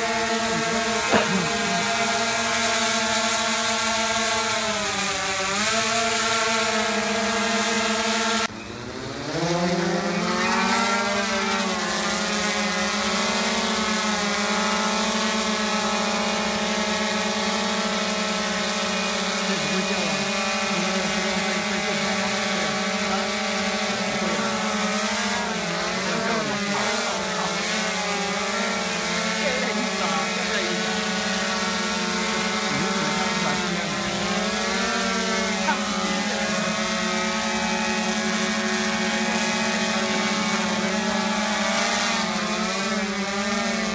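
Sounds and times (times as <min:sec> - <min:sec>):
drone propellers humming: 0:00.0 - 0:43.9.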